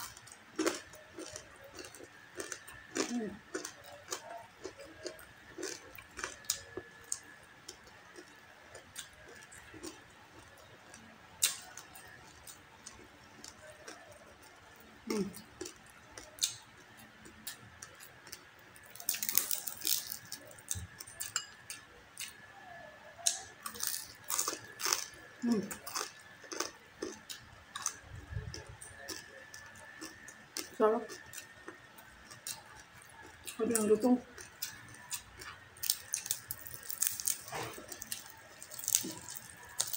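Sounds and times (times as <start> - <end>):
chewing and mouth clicks: 0.0 - 14.5, 15.3 - 22.4, 25.7 - 39.9
crunching food: 0.0 - 22.4, 23.2 - 39.9
faint steady whine: 0.0 - 39.9.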